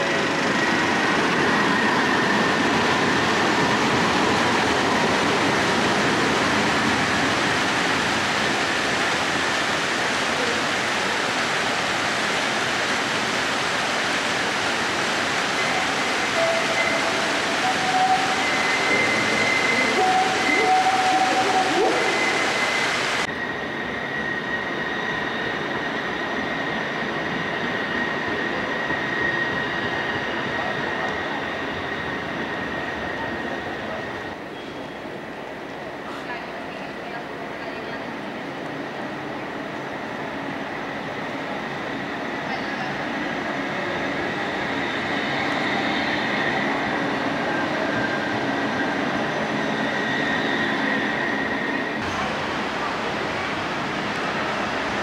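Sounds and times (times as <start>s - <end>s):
tram rolling past: 0.0s - 55.0s.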